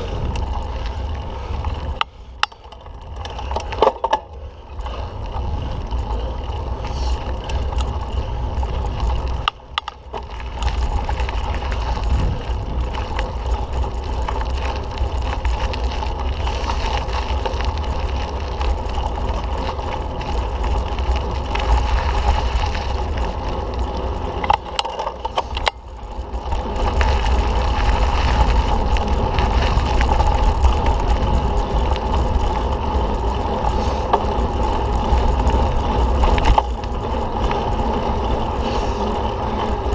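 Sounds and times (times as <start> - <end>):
wind rushing over microphone: 0.0 - 3.6, 4.7 - 39.9
bike rattling over bumps: 0.0 - 39.9
bike tyre noise: 0.0 - 39.9.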